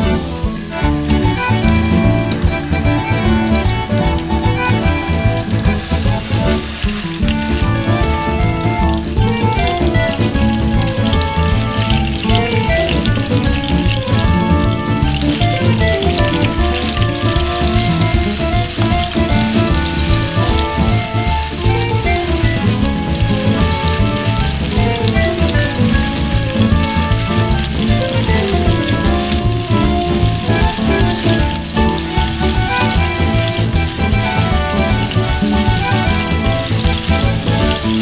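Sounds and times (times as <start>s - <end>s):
background music: 0.0s - 38.0s
chicken frying in oil: 0.0s - 38.0s.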